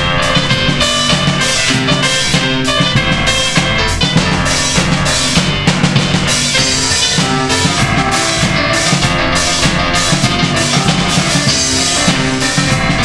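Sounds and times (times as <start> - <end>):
drums and keyboard over loudspeakers: 0.0 - 13.0.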